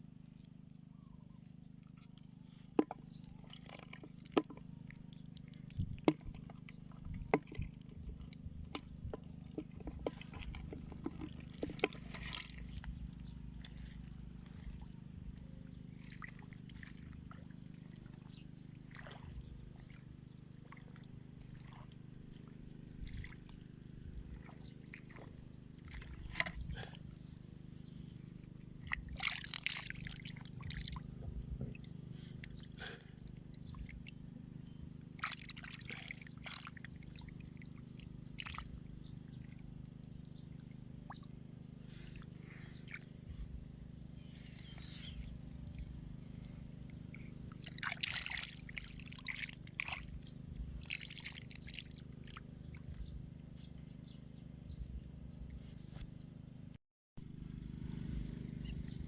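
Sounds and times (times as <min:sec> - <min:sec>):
steady low hum: 0:00.0 - 0:59.0
water splashing and sloshing: 0:01.3 - 0:56.5.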